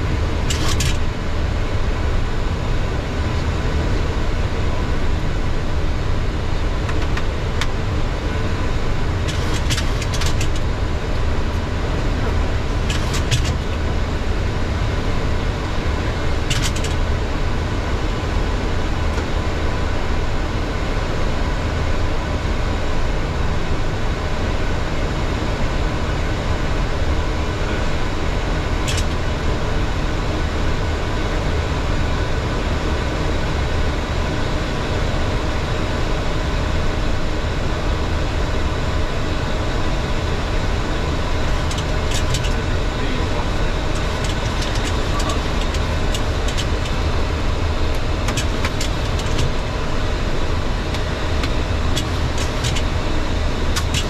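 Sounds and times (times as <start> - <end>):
airflow and engine rush: 0.0 - 54.0.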